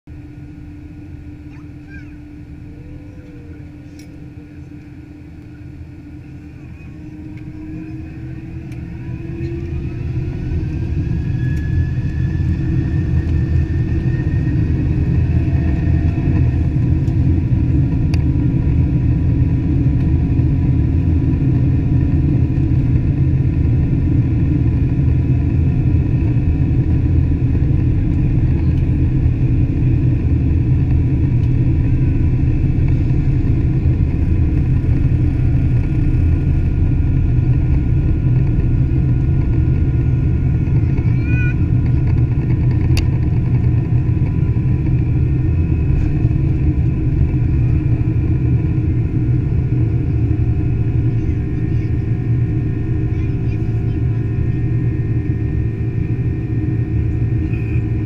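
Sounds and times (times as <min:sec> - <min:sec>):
jet engines loud rumble: 0:00.1 - 0:58.0
faint whining tones: 0:00.2 - 0:58.0.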